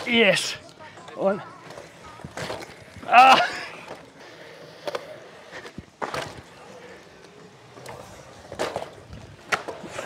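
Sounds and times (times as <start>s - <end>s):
bike tyres rolling on concrete: 0.0s - 10.0s.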